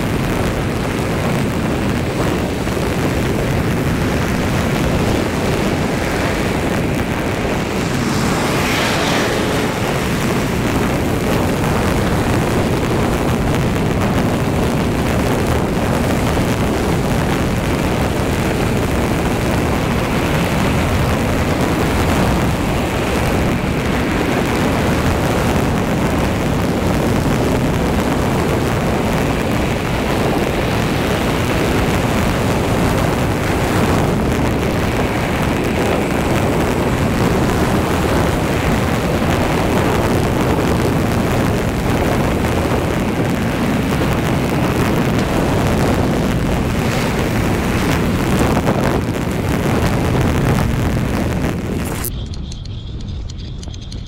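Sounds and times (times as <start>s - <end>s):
car driving rumble: 0.0s - 52.3s.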